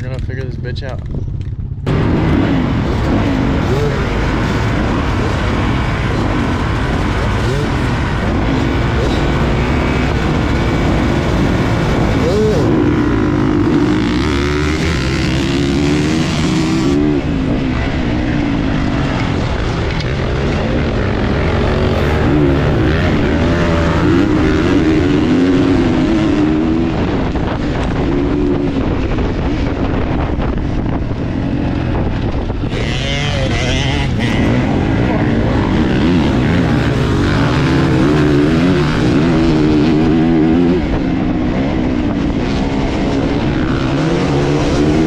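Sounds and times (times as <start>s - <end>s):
dirt bike engine revving: 1.8s - 45.0s.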